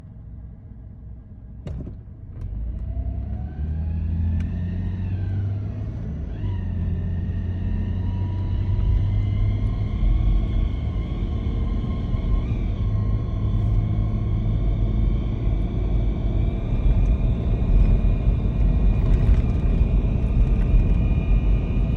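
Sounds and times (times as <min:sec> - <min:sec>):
engine and road rumble: 0:00.0 - 0:21.9.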